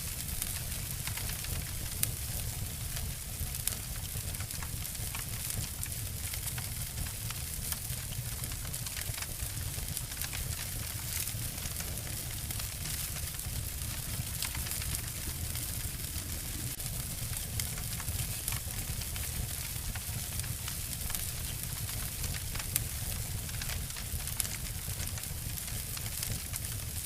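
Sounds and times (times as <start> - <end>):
wood fire crackling: 0.0 - 27.0
fire snapping: 0.1 - 27.0.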